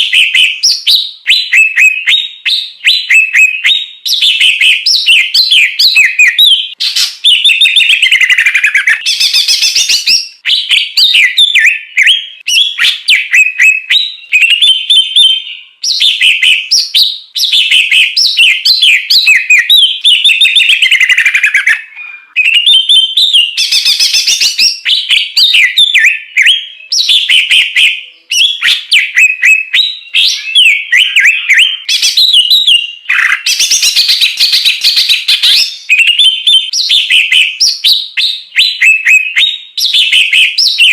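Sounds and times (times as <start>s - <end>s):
songbird chattering and whistling: 0.0s - 40.9s.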